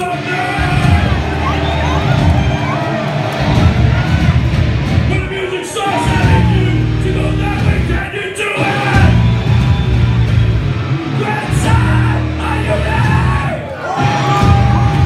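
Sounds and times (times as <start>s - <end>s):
shouted vocals: 0.0s - 4.4s, 5.1s - 9.9s, 11.1s - 15.0s
punk band playing live: 0.0s - 15.0s.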